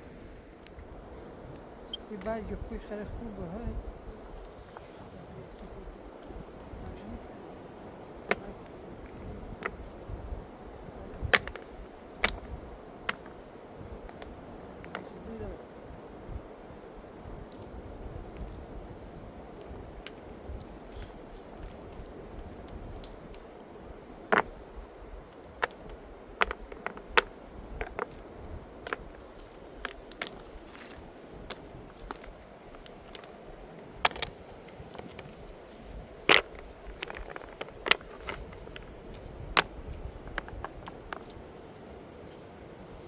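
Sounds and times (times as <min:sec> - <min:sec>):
steady low rumble: 0:00.0 - 0:43.0.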